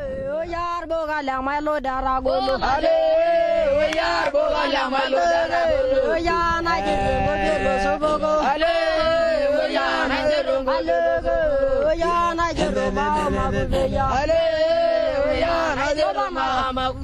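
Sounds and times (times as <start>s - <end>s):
voices chanting in song: 0.0s - 17.0s.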